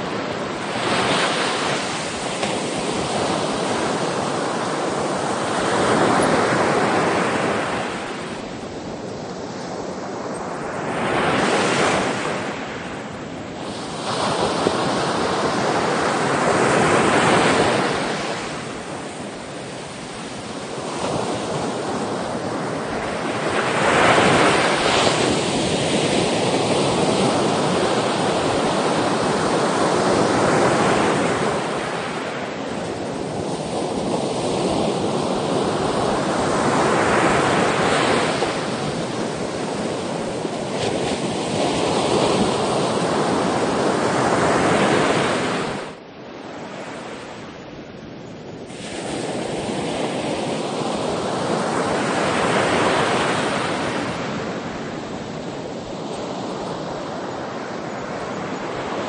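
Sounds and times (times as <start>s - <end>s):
ocean waves breaking on shore: 0.0s - 59.0s
wind on microphone: 0.0s - 59.0s.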